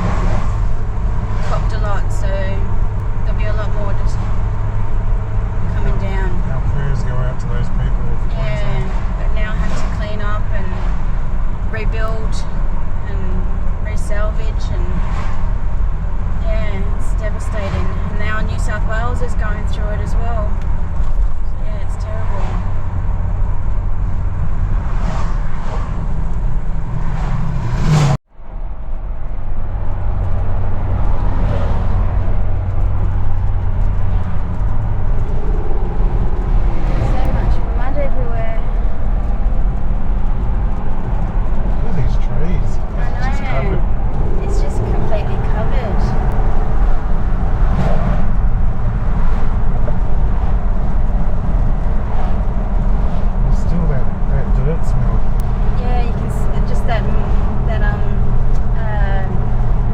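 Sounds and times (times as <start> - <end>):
car engine and tyres drone: 0.0 - 59.9.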